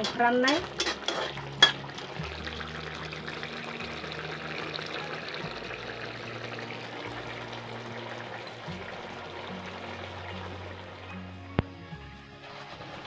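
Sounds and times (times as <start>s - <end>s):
curry bubbling in a wok: 0.0s - 11.3s.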